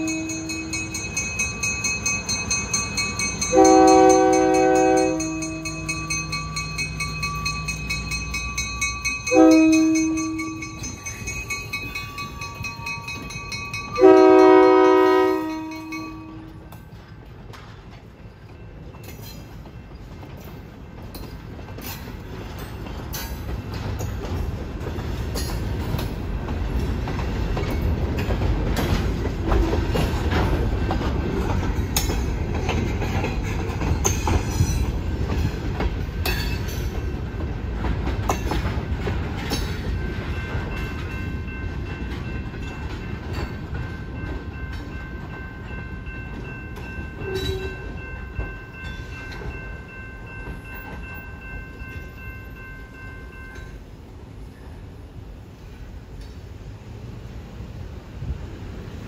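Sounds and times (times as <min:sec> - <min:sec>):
wheels clanking over rail joints: 0:00.0 - 0:52.1
train rumble: 0:00.0 - 0:59.0.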